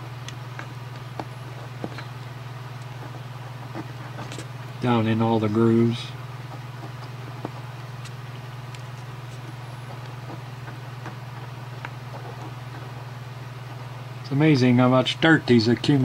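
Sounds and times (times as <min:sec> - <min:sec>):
small clicks and scratches: 0:00.0 - 0:14.3
steady low hum: 0:00.0 - 0:16.0.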